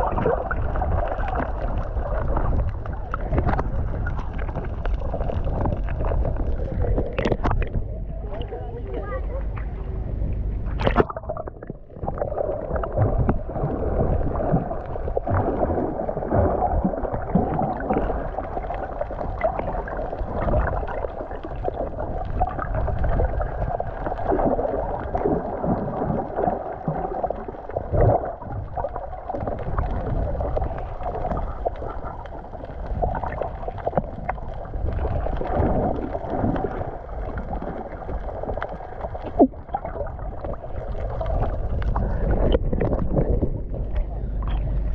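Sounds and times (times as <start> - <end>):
underwater gurgling and sloshing: 0.0 - 44.9.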